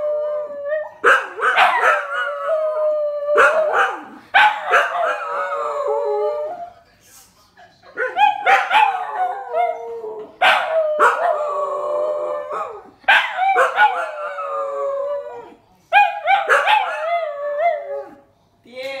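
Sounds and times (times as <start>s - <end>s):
dogs howling: 0.0s - 6.7s, 8.0s - 18.2s.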